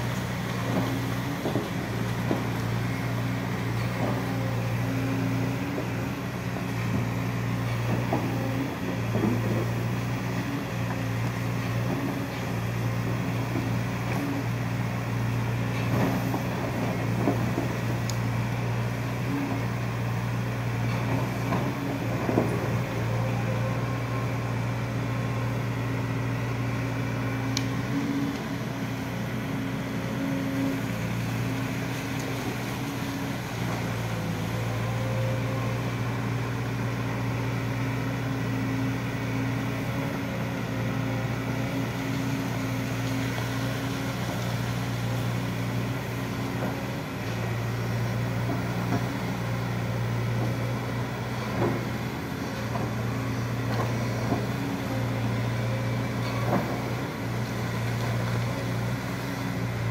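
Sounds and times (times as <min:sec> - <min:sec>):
excavator diesel engine humming: 0:00.0 - 0:59.9.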